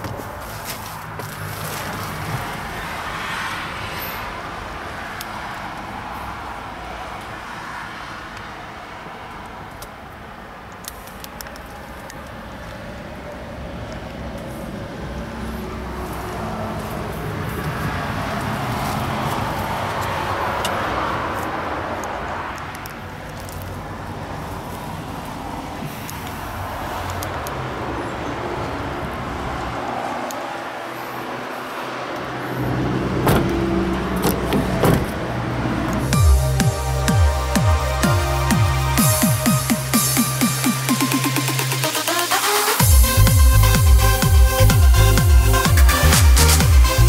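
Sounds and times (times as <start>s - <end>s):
traffic rumble: 0.0s - 47.0s.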